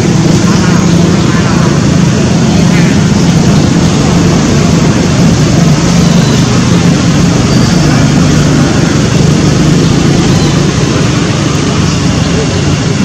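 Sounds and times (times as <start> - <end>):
loud background rumble: 0.0 - 13.0
low hum: 0.0 - 13.0.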